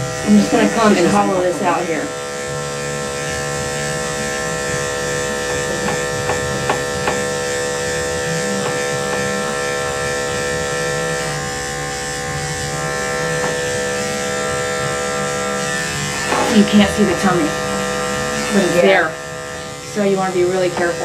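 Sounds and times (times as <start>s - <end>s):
electric clippers humming: 0.0s - 21.0s.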